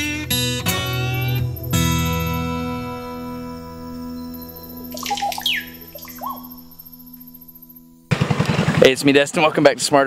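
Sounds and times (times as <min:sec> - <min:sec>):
plucked guitar notes: 0:00.0 - 0:08.1.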